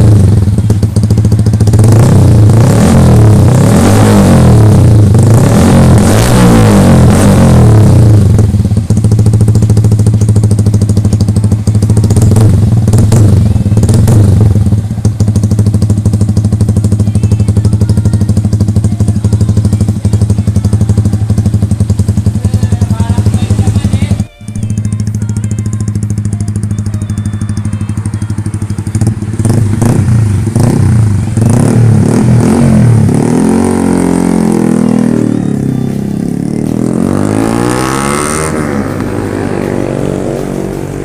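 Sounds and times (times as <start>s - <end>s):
motorcycle engine revving and idling: 0.0s - 41.0s.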